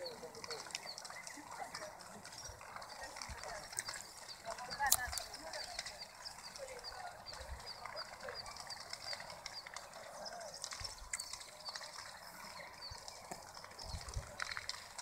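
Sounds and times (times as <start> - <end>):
faint distant voices: 0.0 - 15.0.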